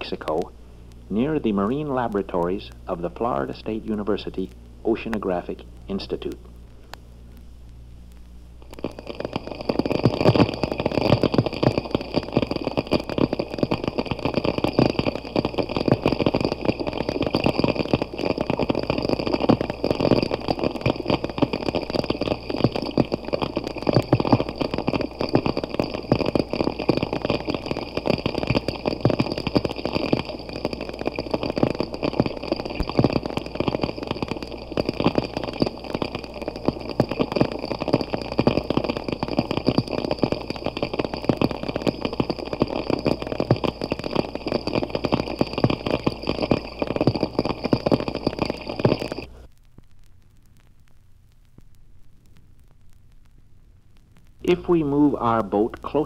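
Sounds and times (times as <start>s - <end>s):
steady high whine: 0.0s - 56.0s.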